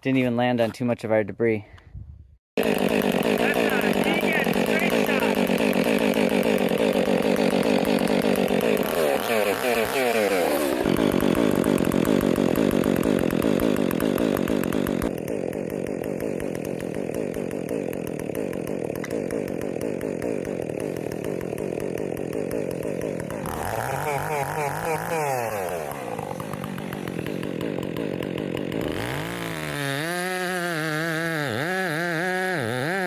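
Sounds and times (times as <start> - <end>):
chainsaw cutting wood: 2.6 - 33.0.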